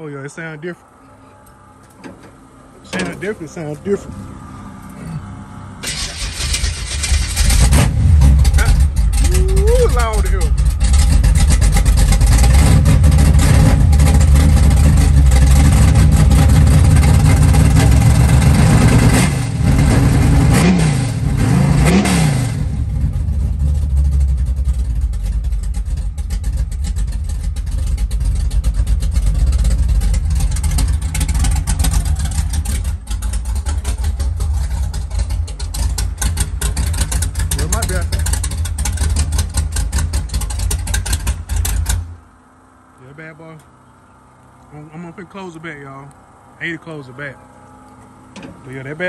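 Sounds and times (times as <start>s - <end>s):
car engine revving: 1.6s - 49.0s.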